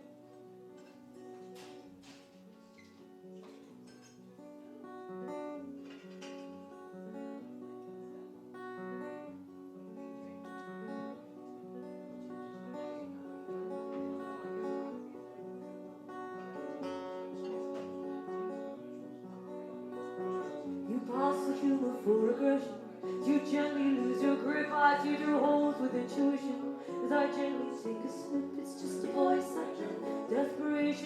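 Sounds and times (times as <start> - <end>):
acoustic guitar strumming: 0.0 - 31.0.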